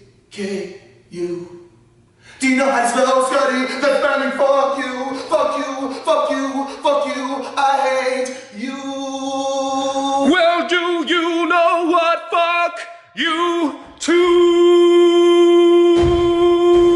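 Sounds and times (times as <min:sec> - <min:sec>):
man singing a cappella: 0:02.4 - 0:16.9.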